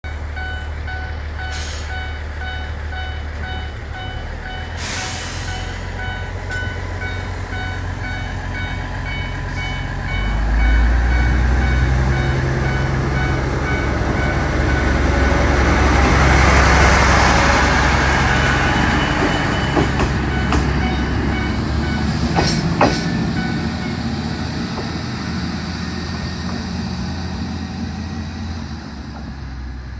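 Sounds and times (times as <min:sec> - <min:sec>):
diesel railcar engine hum: 0:00.0 - 0:29.9
train rushing noise: 0:00.2 - 0:29.9.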